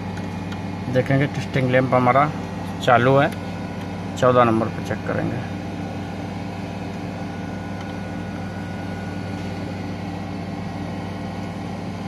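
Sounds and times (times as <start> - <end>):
machine droning: 0.0 - 12.0.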